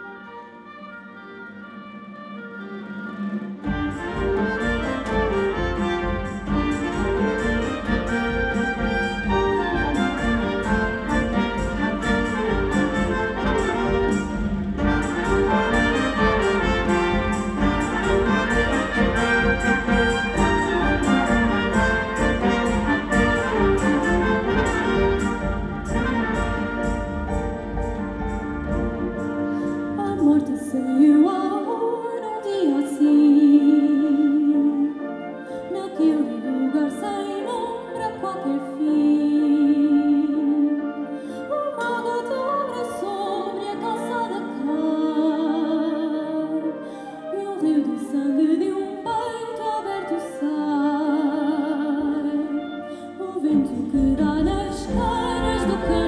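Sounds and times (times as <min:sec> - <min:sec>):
orchestral ensemble playing: 0:00.0 - 0:56.0.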